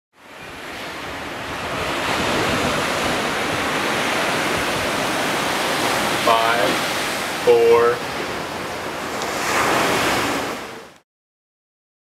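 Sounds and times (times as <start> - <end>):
ocean surf rushing: 0.2 - 11.0.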